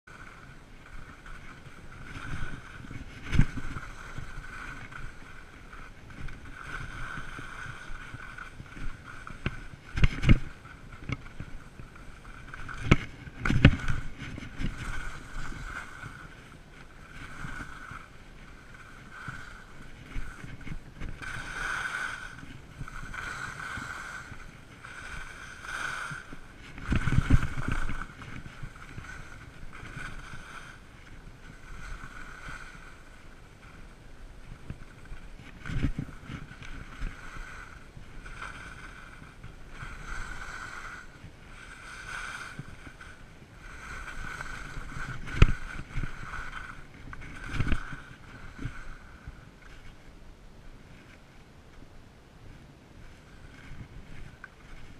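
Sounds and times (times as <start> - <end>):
skis thumping on bumps: 0.1 - 33.8, 34.4 - 49.9
skis hissing and scraping on snow: 0.1 - 50.1, 52.4 - 54.9
wind on microphone: 0.1 - 54.9.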